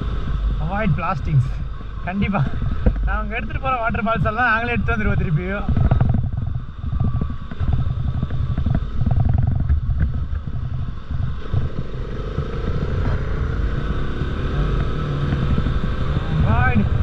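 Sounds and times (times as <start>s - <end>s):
motorcycle engine running: 0.0s - 17.0s
rising whine: 0.0s - 17.0s
wind rumble on microphone: 0.0s - 17.0s.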